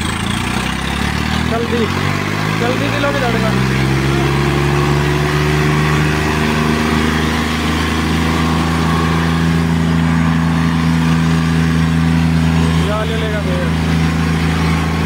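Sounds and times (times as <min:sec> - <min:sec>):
tractor diesel engine running hard: 0:00.0 - 0:15.0.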